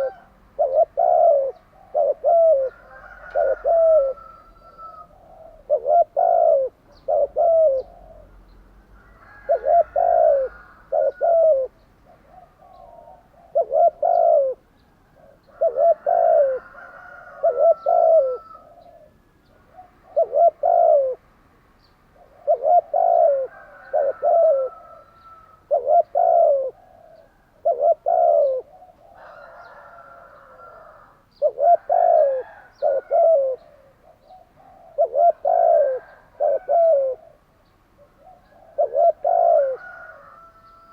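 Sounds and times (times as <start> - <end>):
dove cooing: 0.0 - 21.3, 22.1 - 40.9.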